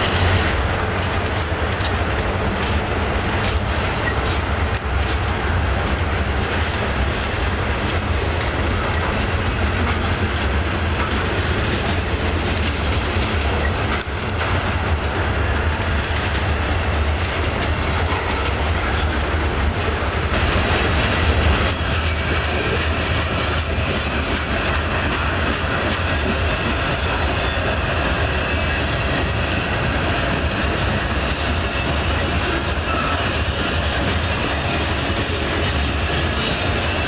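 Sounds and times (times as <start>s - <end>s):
train wheels rumbling on rails: 0.0s - 37.0s
wheels clacking over rail joints: 0.0s - 37.0s.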